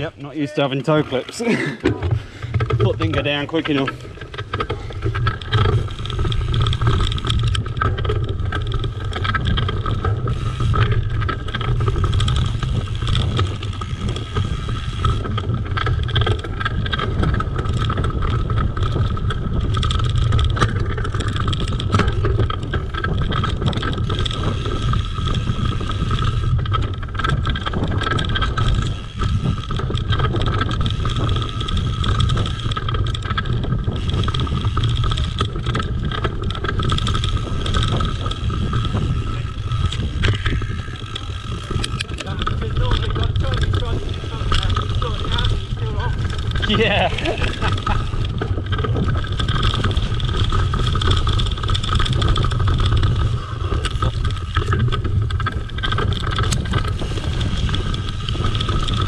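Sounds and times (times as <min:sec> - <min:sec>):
bike rattling over bumps: 0:00.0 - 0:59.0
bike tyre rumble on dirt: 0:00.0 - 0:59.0
wind on microphone: 0:04.1 - 0:59.0.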